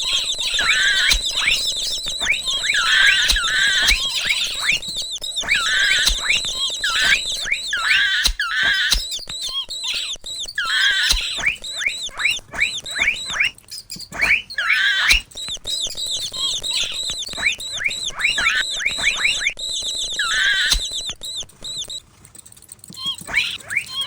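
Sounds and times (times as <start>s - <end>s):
mouse squeaking: 0.0s - 22.0s, 22.9s - 24.0s.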